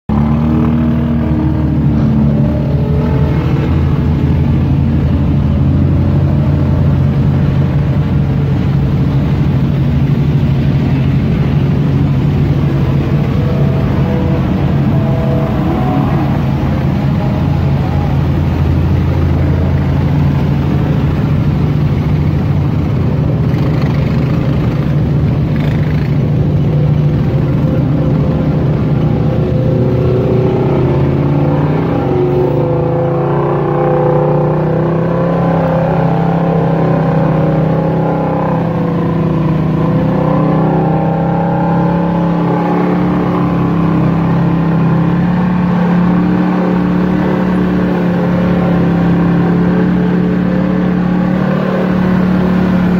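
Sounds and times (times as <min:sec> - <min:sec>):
utility vehicle engine revving: 0:00.1 - 0:52.9.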